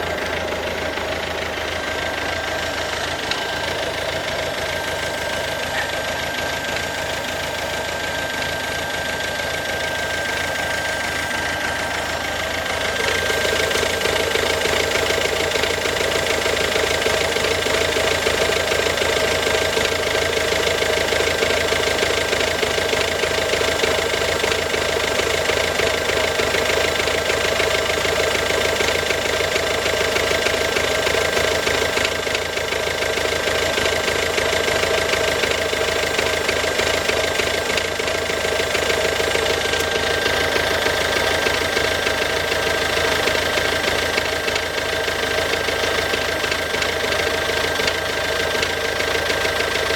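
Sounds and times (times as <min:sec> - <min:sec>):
diesel engine running abnormally: 0:00.0 - 0:49.9.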